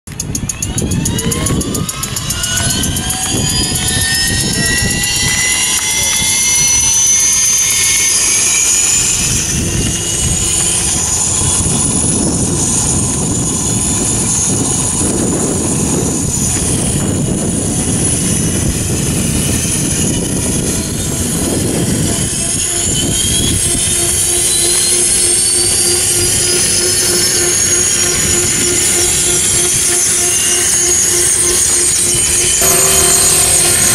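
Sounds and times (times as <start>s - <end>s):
high turbine-like whine: 0.1s - 33.9s
pulsing hum: 0.1s - 33.9s
steady rushing noise: 0.1s - 33.9s.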